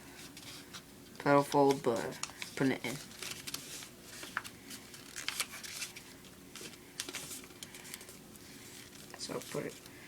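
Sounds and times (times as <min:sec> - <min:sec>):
paper being folded and creased: 0:00.2 - 0:09.9.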